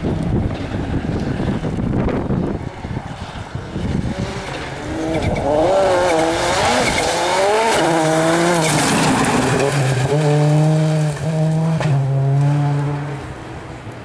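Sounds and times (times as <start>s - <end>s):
rally car engine at high revs: 0.6s - 13.6s.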